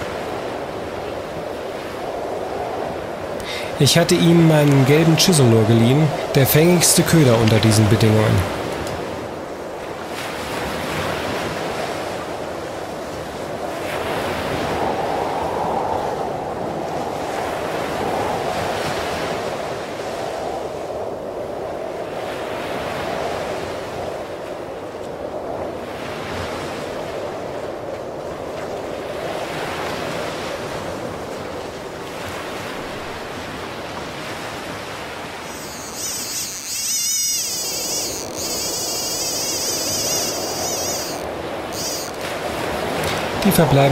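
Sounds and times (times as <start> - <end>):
surf washing up sand beach: 0.0 - 35.7, 40.4 - 43.9.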